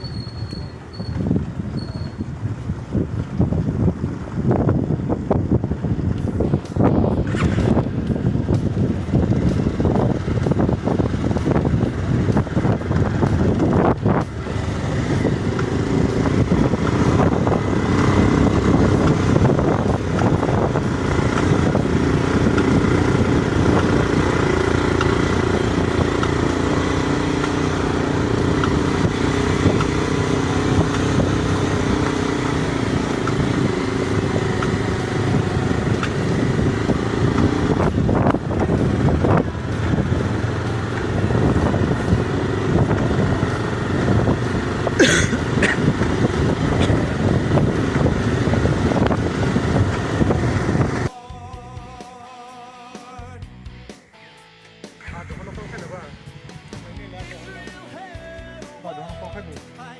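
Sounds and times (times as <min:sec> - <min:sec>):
motorcycle engine cruising: 0:00.0 - 0:52.0, 0:53.6 - 0:57.8
road noise: 0:00.0 - 0:52.1, 0:52.9 - 0:59.9.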